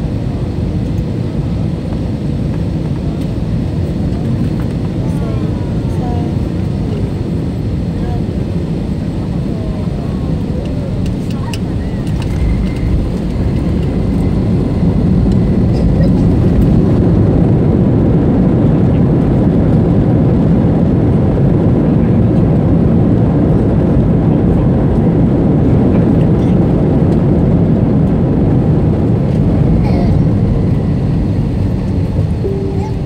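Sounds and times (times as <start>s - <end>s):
airplane rolling on runway: 0.0s - 33.0s.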